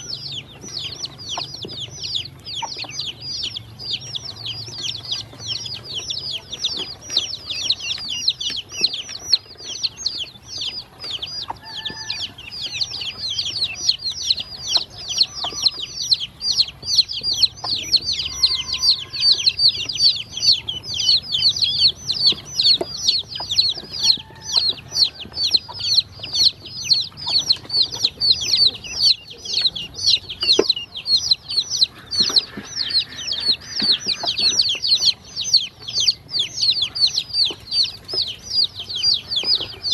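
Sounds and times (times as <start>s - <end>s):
chicks and ducklings peeping: 0.0s - 39.9s.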